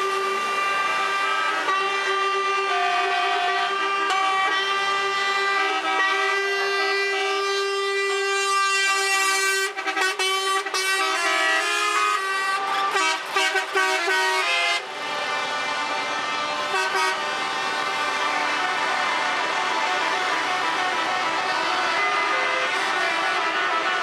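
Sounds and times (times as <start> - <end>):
truck air horns: 0.0 - 24.0
truck rumble: 0.0 - 24.0.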